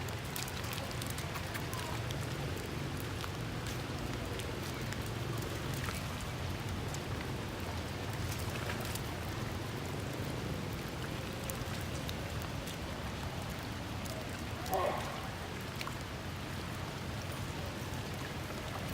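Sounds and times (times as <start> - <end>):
rain drop ticks: 0.0 - 18.9
steady rain hiss: 0.0 - 18.9.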